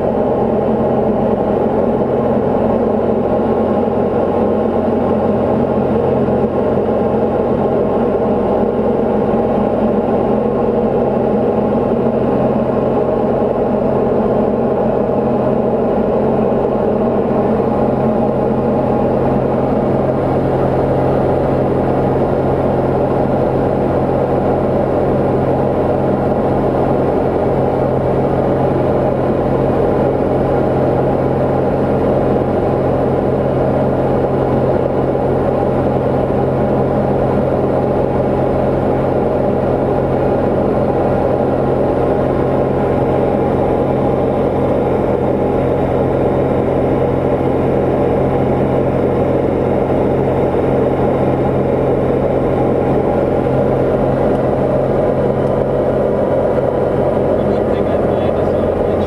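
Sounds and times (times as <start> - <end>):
aircraft engine drone from cabin: 0.0 - 59.0.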